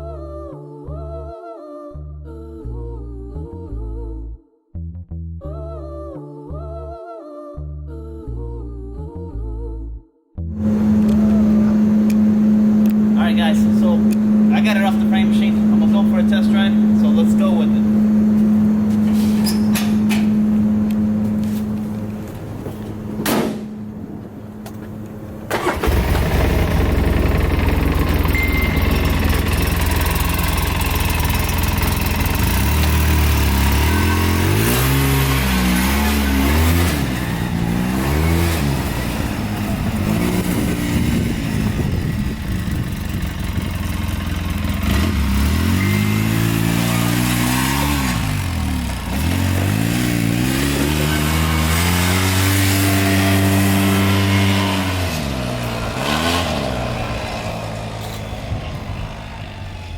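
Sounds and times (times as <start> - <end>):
side-by-side engine revving: 10.5 - 59.9.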